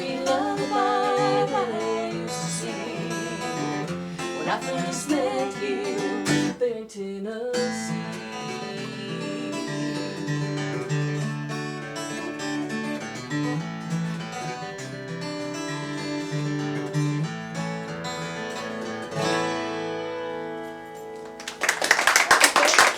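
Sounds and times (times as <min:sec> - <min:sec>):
acoustic guitar playing: 0:00.0 - 0:06.7, 0:07.5 - 0:21.7.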